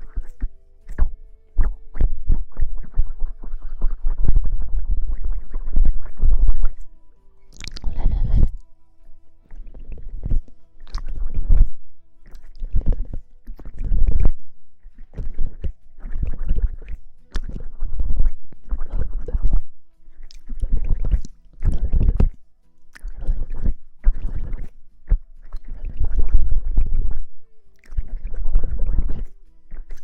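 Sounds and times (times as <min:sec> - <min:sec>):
rubbing against microphone: 0:00.0 - 0:06.9, 0:07.7 - 0:30.0.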